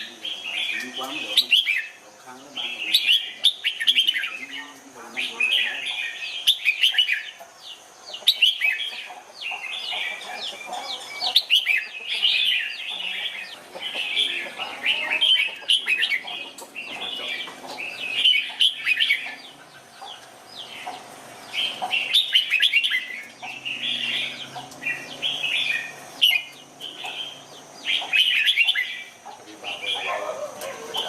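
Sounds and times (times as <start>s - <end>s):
bird singing warbled phrases: 0.0s - 31.0s.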